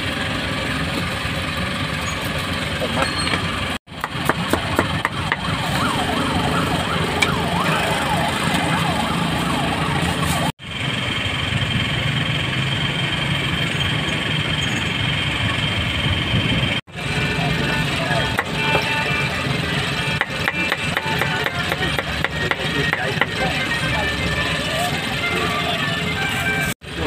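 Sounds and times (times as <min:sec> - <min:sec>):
vehicle engines running: 0:00.0 - 0:27.0.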